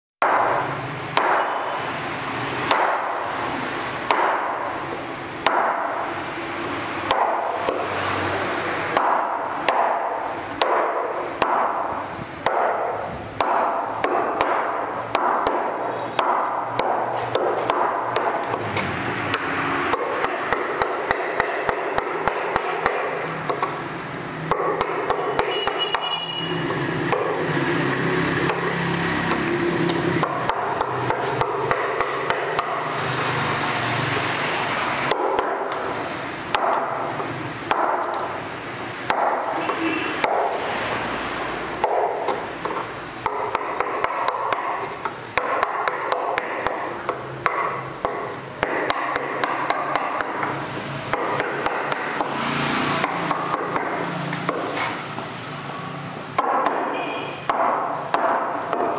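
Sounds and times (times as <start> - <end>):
taps and knocks on carving gouge: 2.7 - 3.1, 4.1 - 4.6, 7.0 - 8.2, 8.8 - 11.8, 12.4 - 23.8, 24.5 - 33.4, 34.8 - 38.3, 39.0 - 55.0, 56.4 - 58.9.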